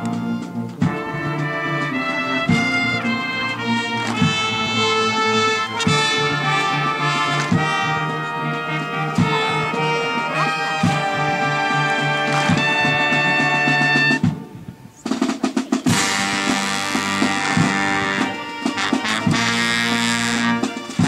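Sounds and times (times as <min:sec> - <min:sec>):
brass playing a march: 0:00.0 - 0:21.0
steady drum strokes: 0:00.0 - 0:21.0.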